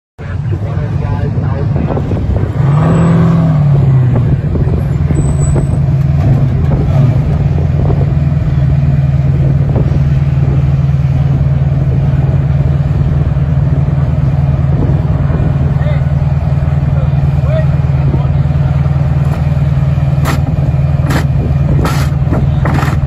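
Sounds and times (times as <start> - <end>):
truck engine idling: 0.2 - 23.0.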